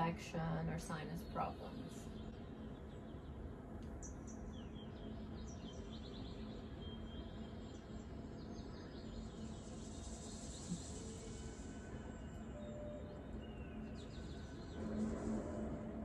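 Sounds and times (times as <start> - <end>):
steady low hum: 0.0 - 16.0
faint bird chirping: 0.8 - 16.0.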